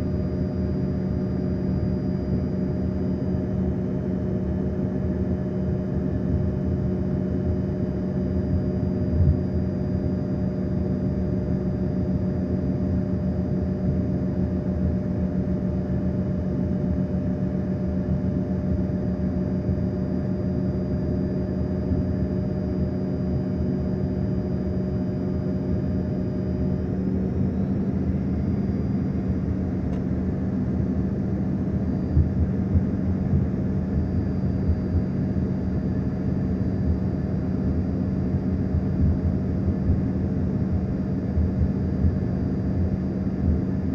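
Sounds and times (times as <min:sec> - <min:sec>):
airliner engines droning in cabin: 0:00.0 - 0:43.9.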